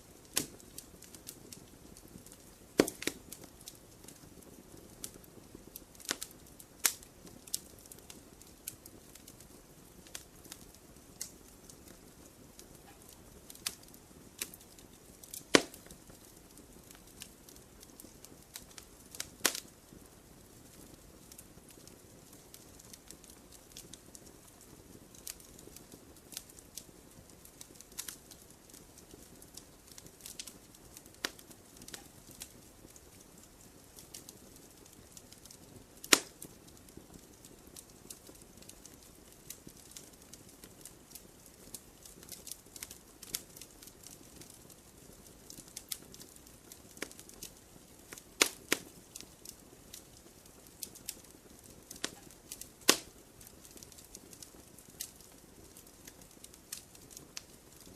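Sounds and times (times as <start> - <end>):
campfire crackling and popping: 0.0 - 57.9
hiss of flames: 0.0 - 57.9.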